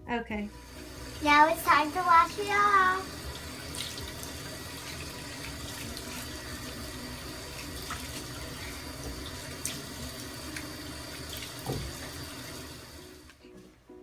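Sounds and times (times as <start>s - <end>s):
tap water running into sink: 0.6s - 13.3s
water splashes: 1.4s - 12.7s.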